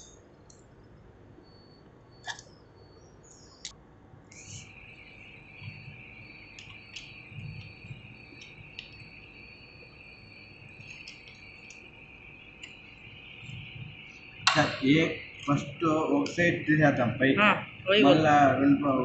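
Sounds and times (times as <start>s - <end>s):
cricket trilling: 0.0s - 19.0s.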